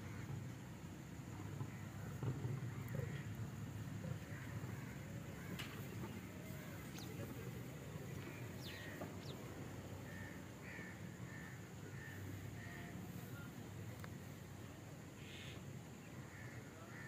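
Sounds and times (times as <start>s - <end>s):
birds calling: 0.0s - 17.0s
low background rumble: 0.0s - 17.0s.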